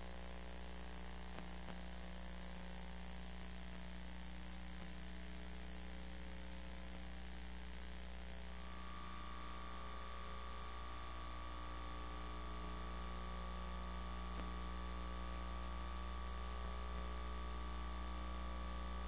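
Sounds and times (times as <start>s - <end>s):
tape hum and hiss: 0.0s - 19.0s.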